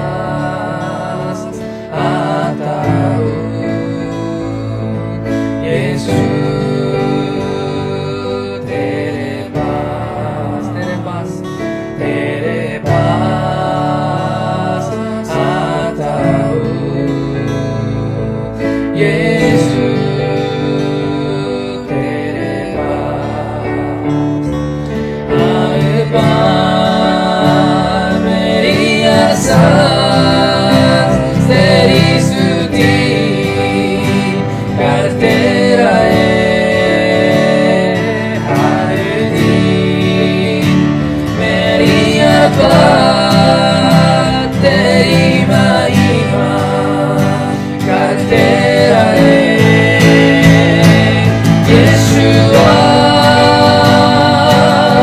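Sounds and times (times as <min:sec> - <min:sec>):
man singing a worship song: 0:00.0 - 0:24.1, 0:25.3 - 0:55.0
electronic keyboard: 0:00.0 - 0:55.0.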